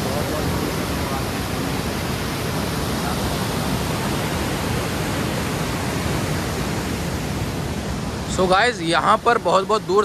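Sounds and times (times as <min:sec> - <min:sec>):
water rushing through dam: 0:00.0 - 0:10.0.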